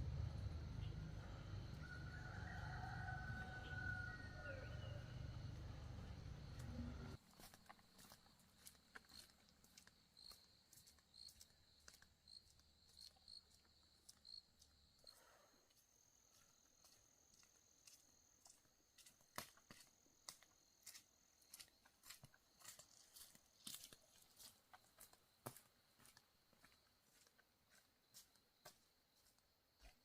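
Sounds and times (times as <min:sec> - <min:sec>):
insects chirping: 0:00.0 - 0:30.0.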